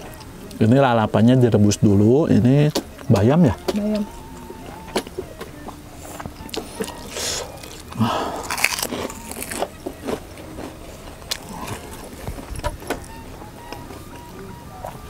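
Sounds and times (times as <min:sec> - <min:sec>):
crunching and chewing food: 0:02.5 - 0:15.0.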